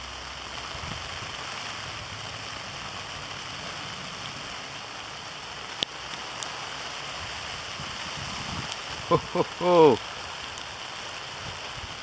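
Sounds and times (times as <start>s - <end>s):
hail pellets pattering: 0.2s - 12.0s.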